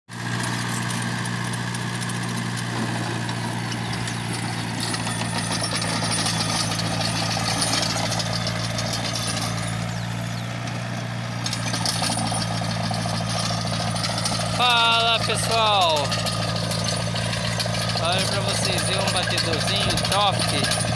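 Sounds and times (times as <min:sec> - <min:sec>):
tractor diesel engine under load: 0:00.1 - 0:20.9.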